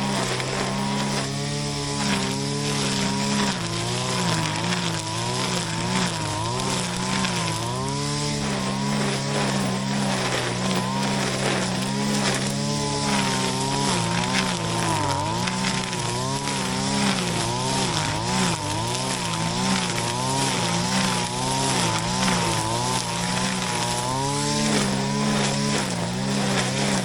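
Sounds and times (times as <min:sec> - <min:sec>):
brush cutter engine cutting grass: 0:00.0 - 0:27.0.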